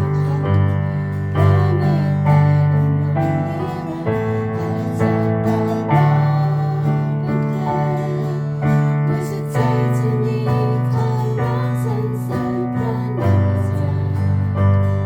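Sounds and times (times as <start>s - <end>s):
acoustic guitar: 0.0s - 15.0s
faint woman singing: 0.0s - 15.0s
keyboard chords: 0.0s - 15.0s.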